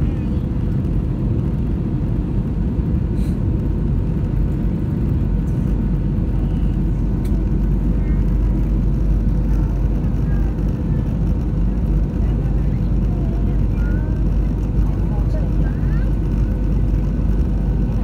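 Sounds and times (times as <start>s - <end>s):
airplane cabin rumble: 0.0s - 18.0s
faint steady hums: 0.0s - 18.0s.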